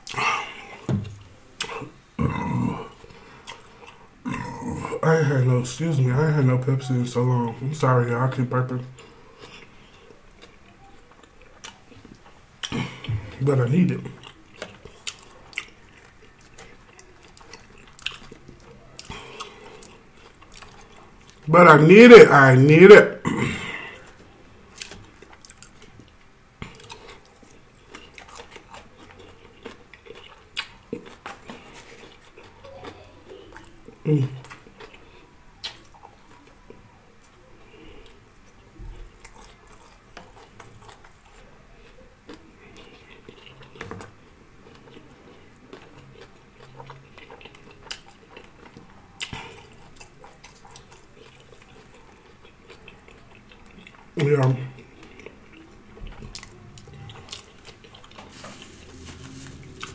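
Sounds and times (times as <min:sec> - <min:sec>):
person chewing food: 0:00.0 - 0:05.0, 0:08.7 - 0:21.5, 0:23.3 - 0:59.9.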